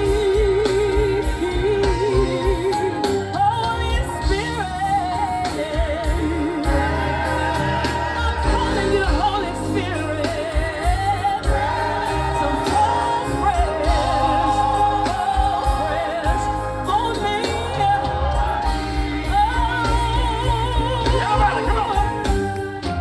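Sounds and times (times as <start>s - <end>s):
band with steady bass line: 0.0s - 23.0s.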